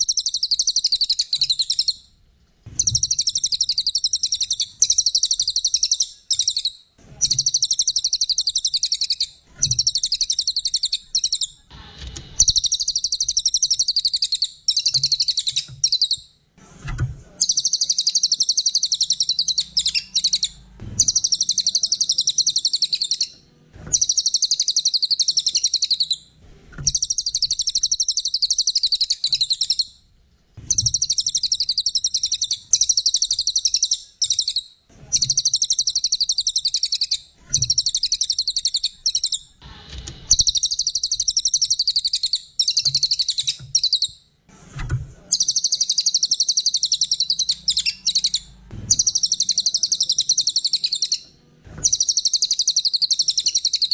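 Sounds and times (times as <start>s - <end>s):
songbird high-pitched trilling chatter: 0.0s - 2.0s, 2.8s - 11.6s, 12.4s - 16.2s, 17.4s - 23.3s, 23.9s - 26.2s, 26.9s - 29.9s, 30.7s - 39.5s, 40.3s - 44.1s, 45.4s - 51.2s, 51.8s - 53.9s.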